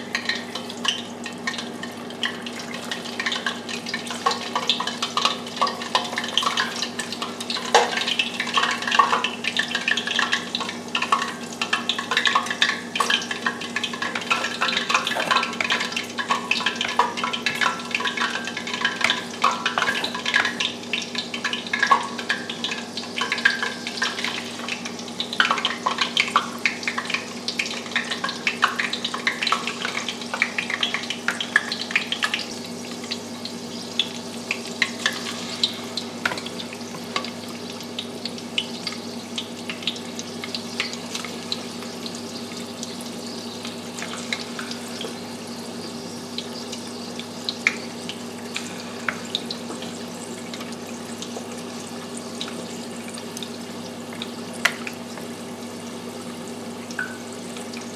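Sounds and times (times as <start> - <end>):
wings deep-frying in oil: 0.0 - 57.9.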